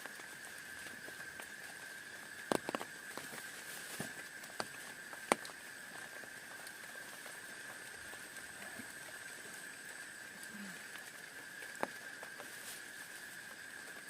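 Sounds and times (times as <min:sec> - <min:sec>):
raindrops tapping: 0:00.0 - 0:14.0
steady rain: 0:00.0 - 0:14.0.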